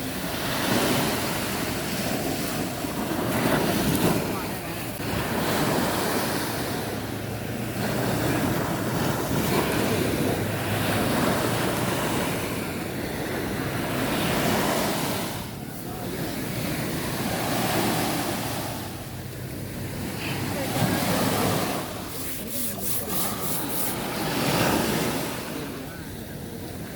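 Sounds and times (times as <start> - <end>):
sea waves washing onto shore: 0.0 - 26.9.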